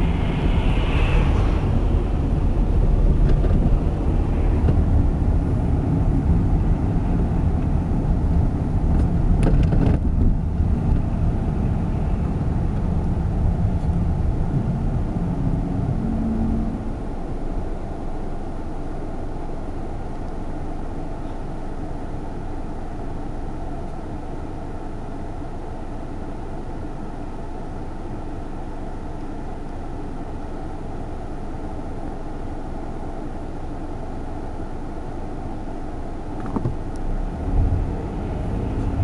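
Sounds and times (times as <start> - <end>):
car engine and tyre rumble: 0.0 - 39.0.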